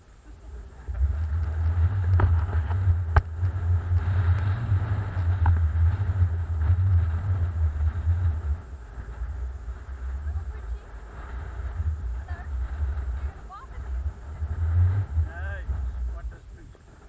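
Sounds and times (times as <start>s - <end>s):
wind buffeting microphone: 0.4s - 17.0s.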